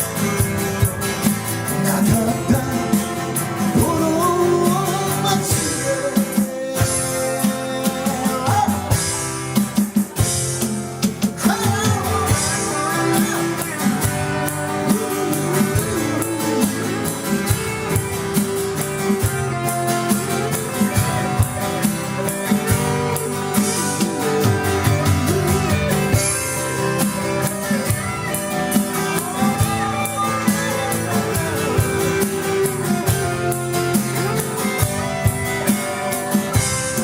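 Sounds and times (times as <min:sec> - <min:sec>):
electric guitar: 0:00.0 - 0:37.0
live rock band playing: 0:00.0 - 0:37.0.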